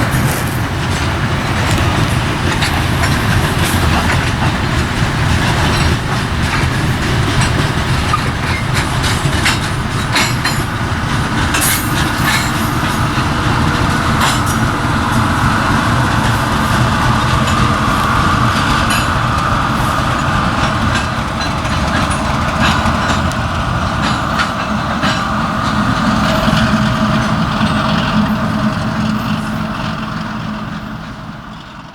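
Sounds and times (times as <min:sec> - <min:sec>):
freight train rolling past: 0:00.0 - 0:31.9.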